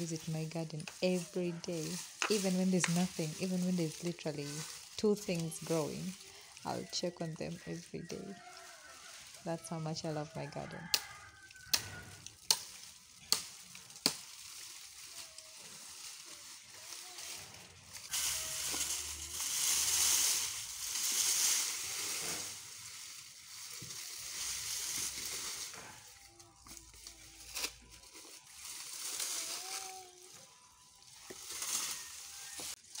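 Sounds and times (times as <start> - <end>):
dry brush crackling and rustling: 0.0 - 33.0.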